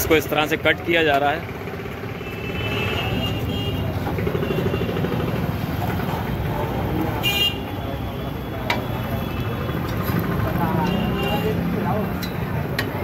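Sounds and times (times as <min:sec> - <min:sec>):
low rumble of street noise: 0:00.0 - 0:13.0.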